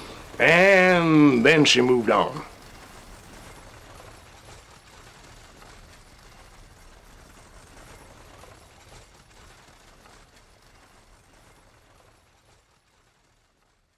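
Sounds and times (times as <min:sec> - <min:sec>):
stagecoach rattling and rumbling: 0:00.0 - 0:13.9.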